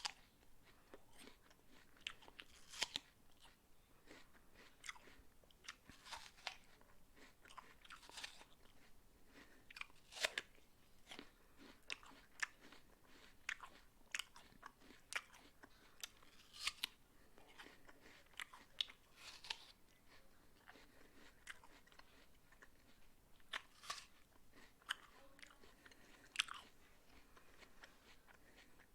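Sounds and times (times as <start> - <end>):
person chewing apple: 0.0 - 28.9.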